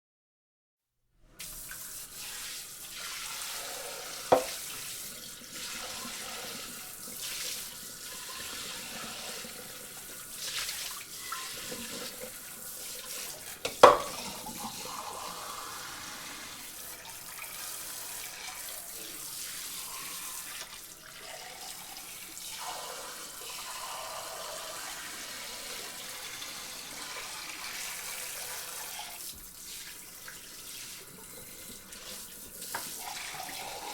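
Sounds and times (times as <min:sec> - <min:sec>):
water spray hissing on dishes: 0:01.3 - 0:33.9.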